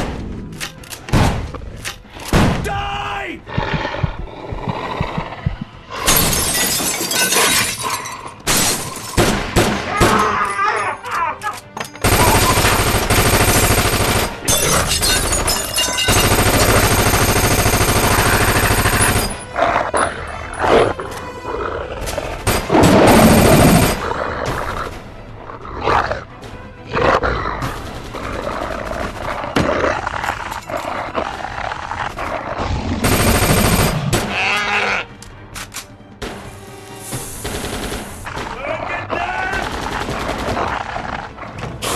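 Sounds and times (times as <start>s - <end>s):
dramatic music score: 0.0s - 41.9s.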